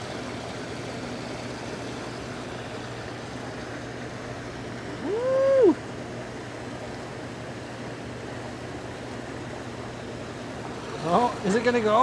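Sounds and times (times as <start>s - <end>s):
hot tub jets churning water: 0.0s - 12.0s
low even hum: 0.0s - 12.0s.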